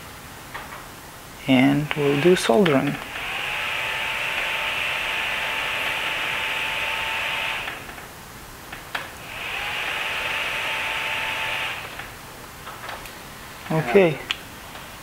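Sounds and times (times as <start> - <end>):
cooling fan whirring: 0.0 - 15.0.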